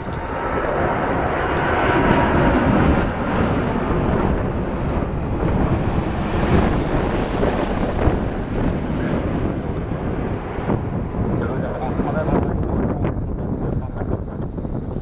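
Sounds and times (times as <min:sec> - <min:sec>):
jet aircraft passing low: 0:00.0 - 0:15.0.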